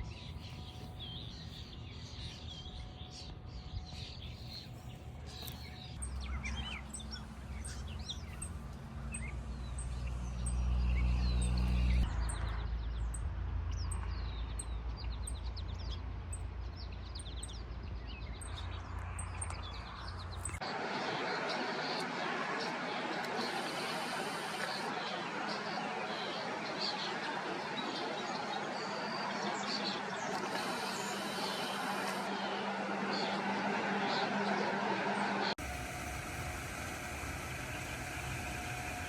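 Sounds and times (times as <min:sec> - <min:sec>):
small birds chirping: 0:00.0 - 0:34.7.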